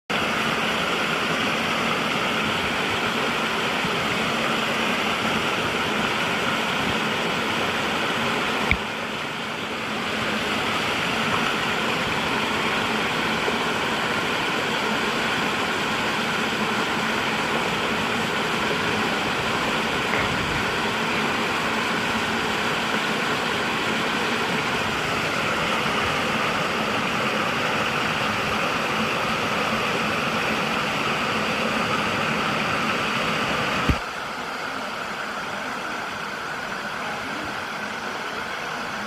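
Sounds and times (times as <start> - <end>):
waterfall roaring: 0.1 - 39.0.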